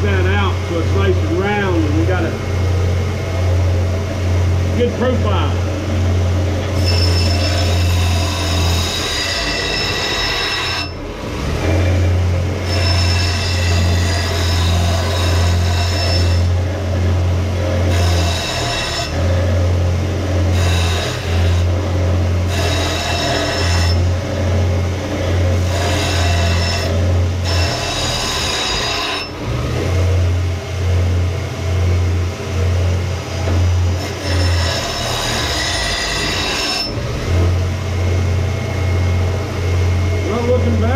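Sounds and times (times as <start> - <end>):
grinder motor hum: 0.0 - 40.9
high whine of grinding steel: 0.0 - 40.9.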